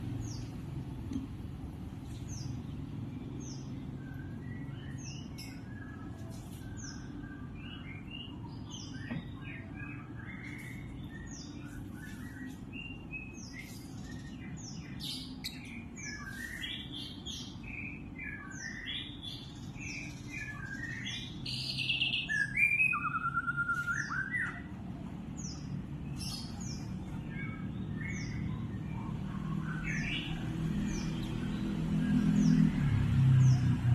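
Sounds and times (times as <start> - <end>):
lovebirds chirping: 2.0 - 24.8, 25.4 - 33.9.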